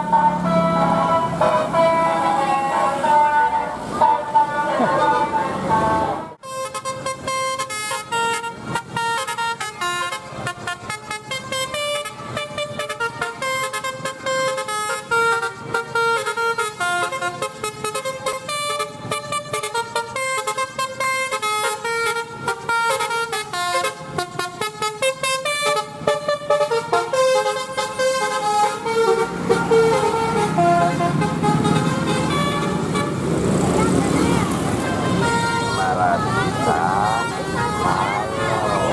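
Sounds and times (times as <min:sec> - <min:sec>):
melodic bus air horn: 0:00.0 - 0:38.9.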